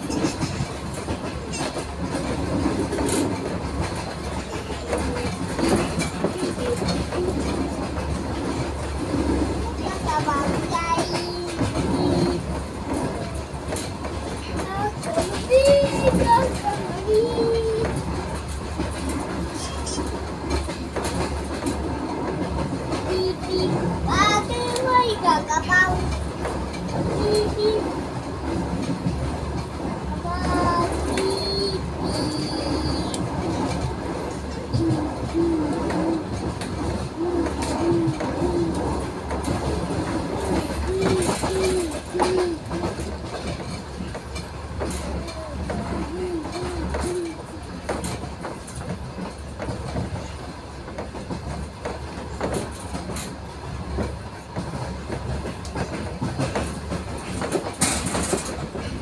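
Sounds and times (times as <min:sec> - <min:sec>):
train rumble and rattle: 0:00.0 - 0:59.0
wheels clicking over rails: 0:00.0 - 0:59.0.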